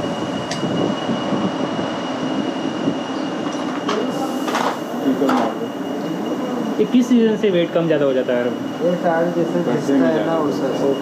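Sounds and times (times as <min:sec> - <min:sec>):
machinery running: 0:00.0 - 0:11.0.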